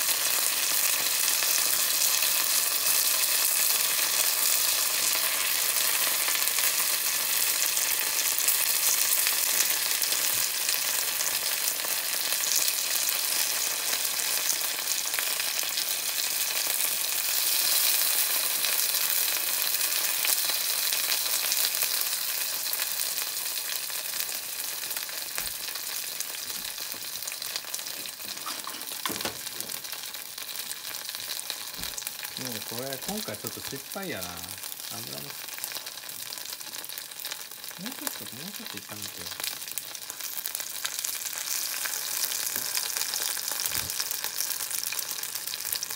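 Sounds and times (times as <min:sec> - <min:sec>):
peppers sizzling in hot oil: 0:00.0 - 0:45.9.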